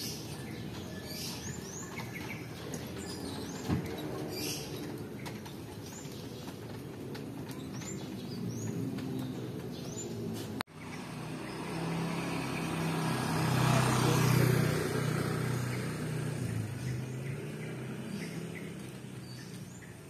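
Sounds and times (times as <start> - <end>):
motor scooter passing: 0.0 - 20.0
outdoor background noise: 0.0 - 20.0.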